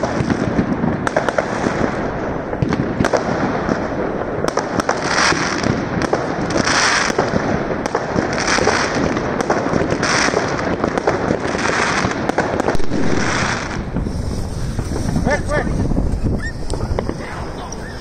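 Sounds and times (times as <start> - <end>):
fireworks bangs and crackles: 0.0 - 18.0
hissing crackle of fireworks: 0.0 - 18.0.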